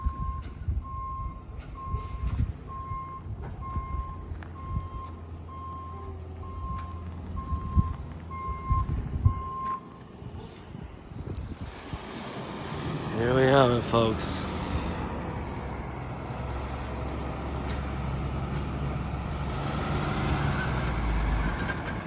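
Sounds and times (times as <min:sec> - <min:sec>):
truck engine idling: 0:00.0 - 0:22.0
truck reversing alarm beeping: 0:00.0 - 0:22.0.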